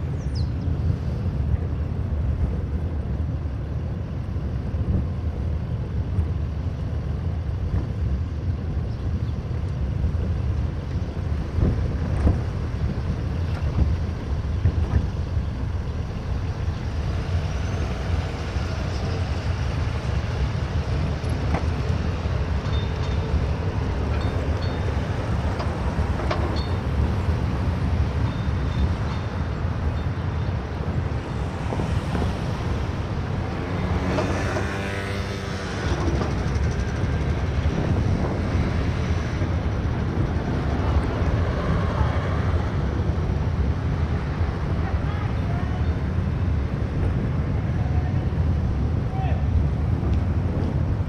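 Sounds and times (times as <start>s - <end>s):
tyres rumbling on road: 0.0s - 51.0s
wind on microphone: 0.0s - 51.0s.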